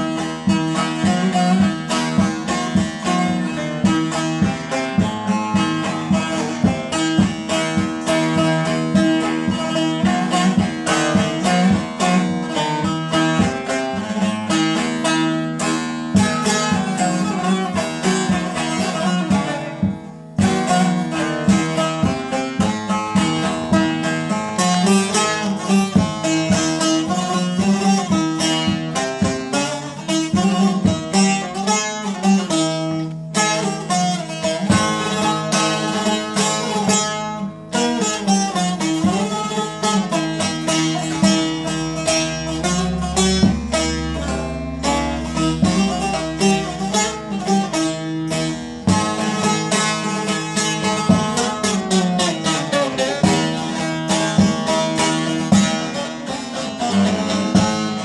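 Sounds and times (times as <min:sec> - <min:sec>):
plucked long-necked lute melody: 0:00.0 - 0:58.0.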